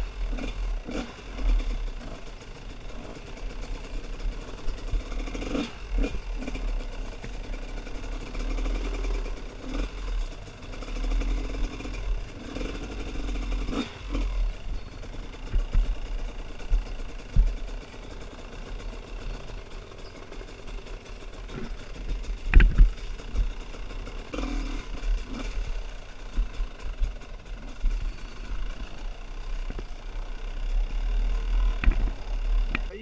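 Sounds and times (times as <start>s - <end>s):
motorcycle engine running unevenly: 0.0s - 33.0s.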